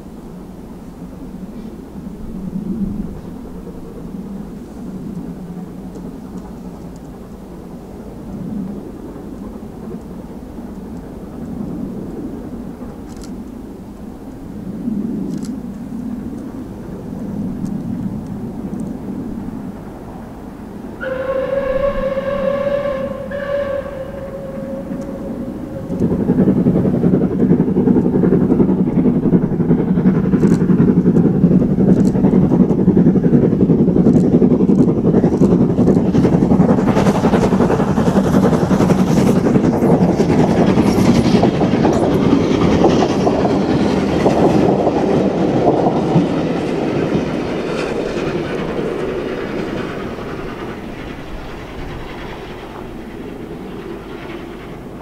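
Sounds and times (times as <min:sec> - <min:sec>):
steam locomotive passing: 0:00.0 - 0:55.0
wheels clicking over rail joints: 0:05.0 - 0:14.5, 0:15.2 - 0:55.0.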